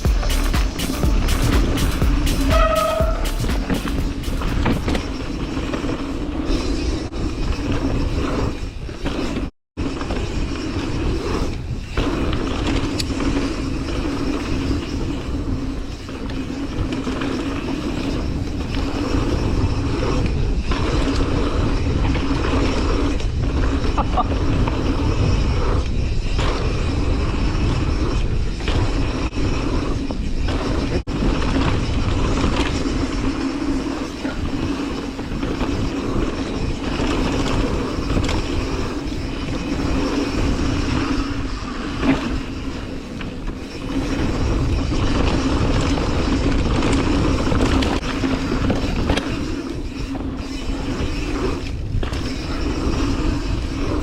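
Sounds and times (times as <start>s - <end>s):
bike tyres on dirt: 0.0s - 54.0s
wind buffeting microphone: 1.1s - 54.0s.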